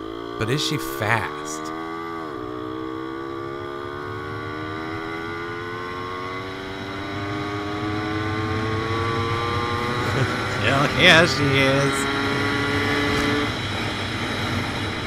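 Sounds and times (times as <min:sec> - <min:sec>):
moped engine accelerating: 0:00.0 - 0:15.0.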